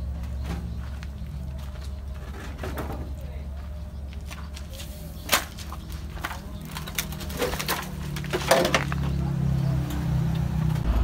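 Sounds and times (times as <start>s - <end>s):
wood and metal cracking underfoot: 0.0s - 10.8s
low engine hum: 0.0s - 11.0s.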